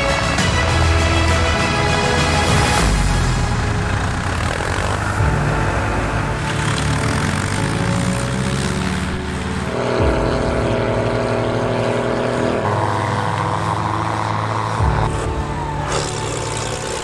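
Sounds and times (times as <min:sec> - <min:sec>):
background music: 0:00.0 - 0:17.0
diesel tractor engines running: 0:00.0 - 0:17.0.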